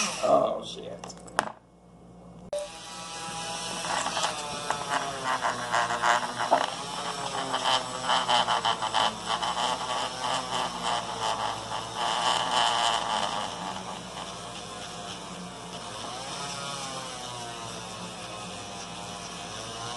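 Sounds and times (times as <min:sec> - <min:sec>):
rotary tool buzzing whine: 0:00.0 - 0:00.6, 0:02.6 - 0:19.9.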